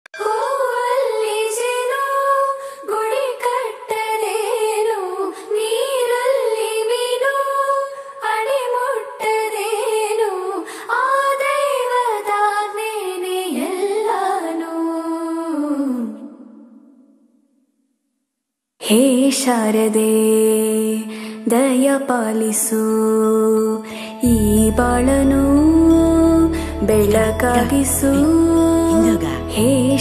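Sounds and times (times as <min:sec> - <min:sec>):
high voices singing devotional song: 0:00.2 - 0:17.4, 0:18.8 - 0:30.0.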